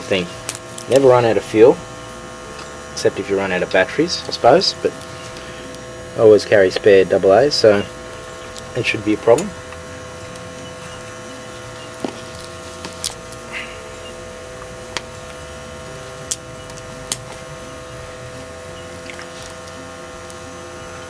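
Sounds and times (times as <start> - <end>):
camp stove fan humming: 0.0 - 21.0.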